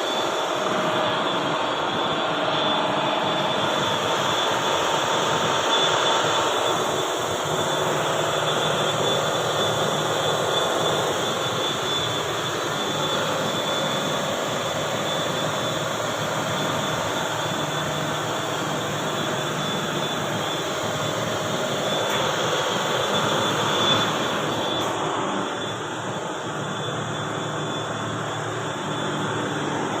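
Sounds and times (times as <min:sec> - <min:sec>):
ship diesel engine running: 0:00.0 - 0:30.0.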